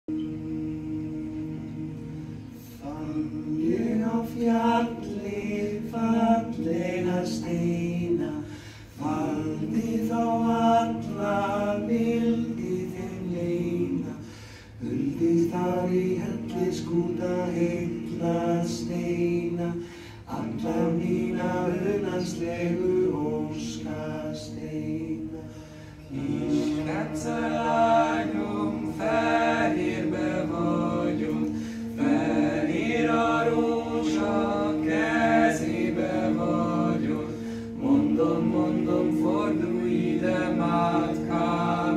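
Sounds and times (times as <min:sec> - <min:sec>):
a cappella harmony singing: 0:00.0 - 0:41.9.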